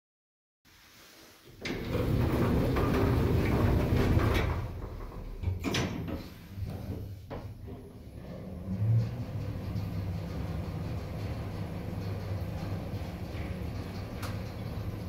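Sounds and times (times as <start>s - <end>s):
elevator car low rumble: 1.6s - 15.0s.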